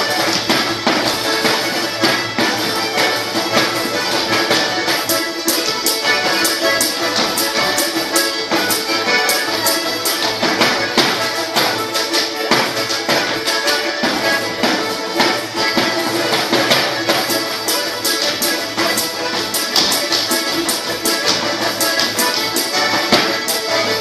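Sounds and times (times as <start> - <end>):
accordion folk dance music: 0.0 - 24.0
sharp percussive strikes: 0.0 - 24.0.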